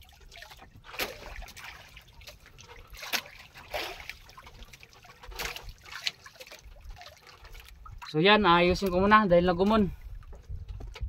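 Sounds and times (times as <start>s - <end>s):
waves lapping against wooden hull: 0.0s - 11.0s.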